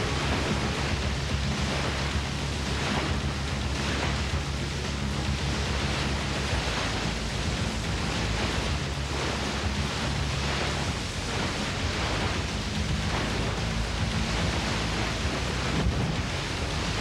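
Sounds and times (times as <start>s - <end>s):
river rapid rushing water: 0.0s - 17.0s.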